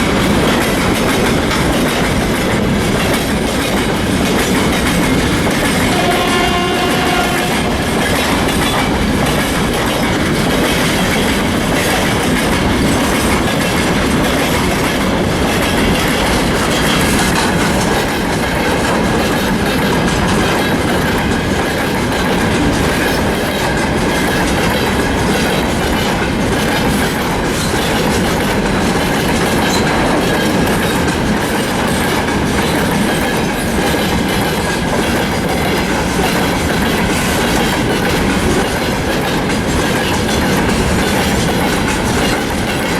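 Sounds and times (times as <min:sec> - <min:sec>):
freight train wheels rumbling: 0:00.0 - 0:42.9
wheels clickety-clack on rail joints: 0:00.0 - 0:42.9.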